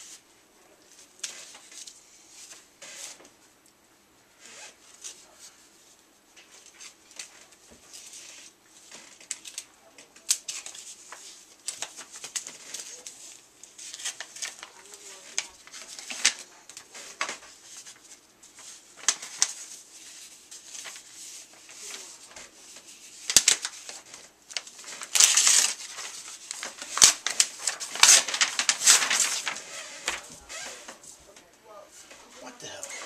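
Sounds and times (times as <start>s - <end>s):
packaging rustling and crinkling: 6.4s - 33.0s.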